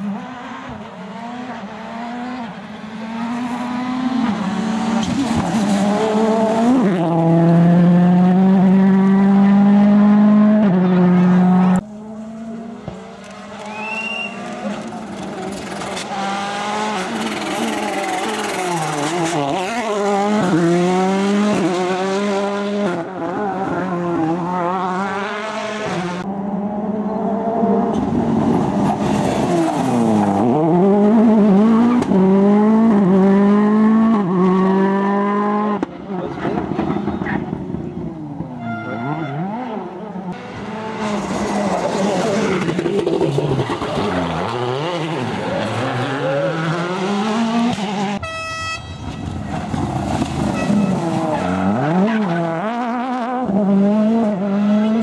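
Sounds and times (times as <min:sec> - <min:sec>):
rally car engines at full throttle: 0:00.0 - 0:48.2, 0:49.0 - 0:55.0.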